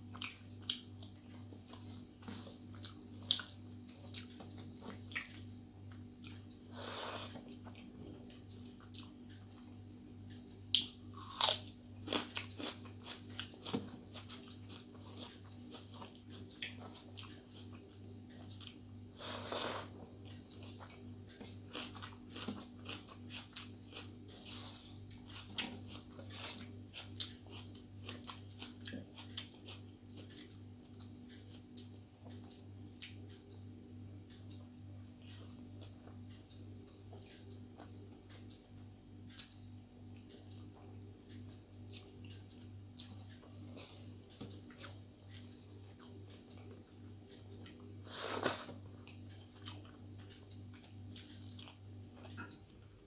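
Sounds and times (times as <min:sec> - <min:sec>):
person chewing food: 0:00.0 - 0:33.6, 0:34.3 - 0:52.8.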